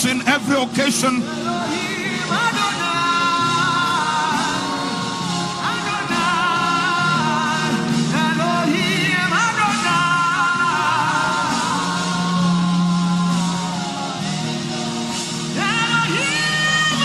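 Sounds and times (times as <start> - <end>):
person singing wordless melody: 0.0 - 17.0.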